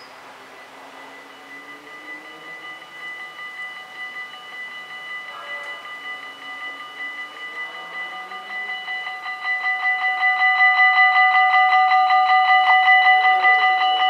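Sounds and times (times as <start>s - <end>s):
level crossing warning bells: 0.0s - 14.0s.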